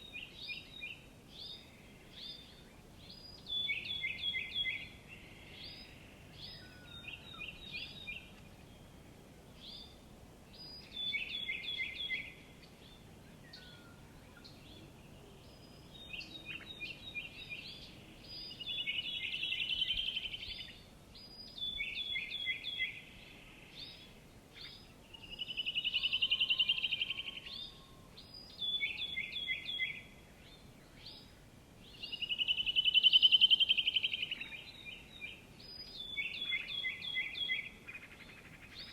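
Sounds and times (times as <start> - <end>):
faint background hiss: 0.0 - 38.9
songbird singing: 0.0 - 38.9.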